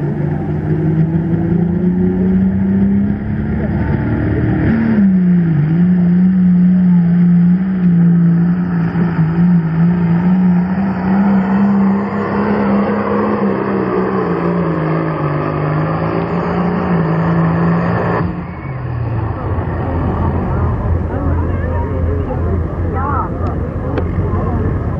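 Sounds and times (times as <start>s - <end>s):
tractor diesel engine at high revs: 0.0s - 24.9s.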